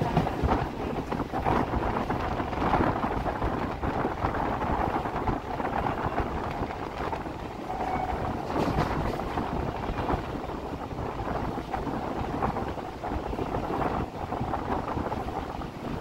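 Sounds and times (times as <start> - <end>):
train rumbling: 0.0 - 16.0
wind buffeting microphone: 0.0 - 16.0.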